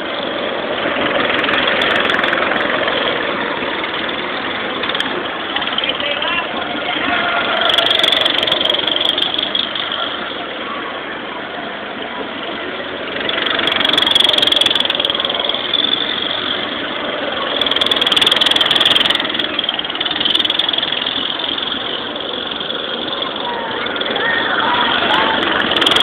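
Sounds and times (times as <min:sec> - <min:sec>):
go-kart engines passing: 0:00.0 - 0:26.0.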